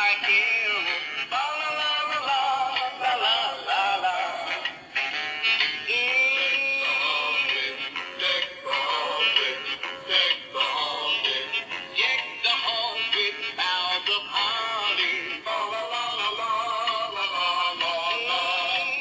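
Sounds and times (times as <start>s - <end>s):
toy speaker playing christmas song: 0.0s - 19.0s.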